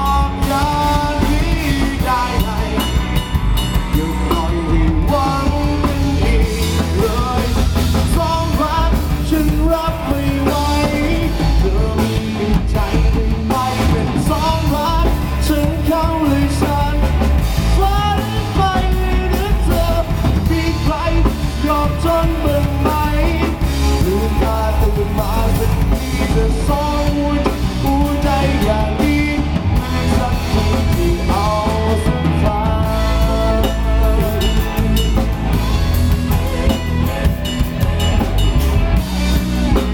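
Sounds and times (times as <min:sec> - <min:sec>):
drum kit beat: 0:00.0 - 0:39.9
rock band music: 0:00.0 - 0:39.9.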